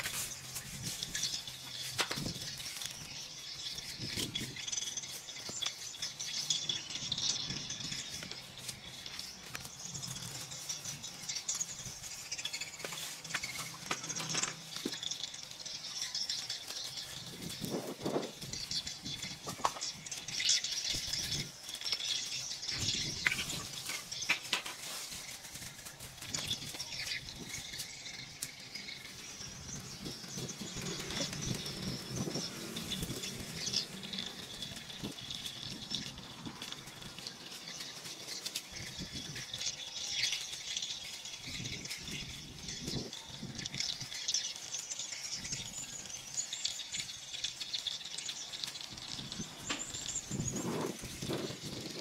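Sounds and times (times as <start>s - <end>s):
leaves and branches rustling: 0.0s - 52.0s.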